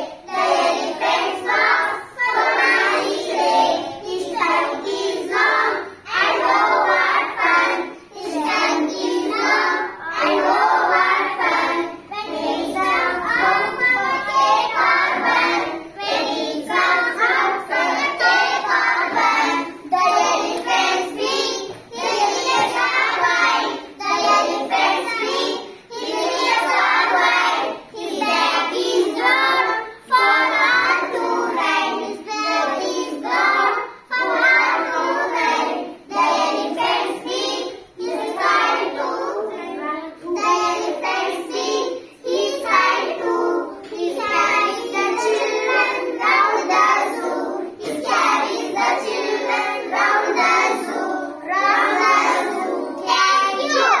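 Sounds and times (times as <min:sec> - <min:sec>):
girls chanting in unison: 0:00.0 - 0:54.0.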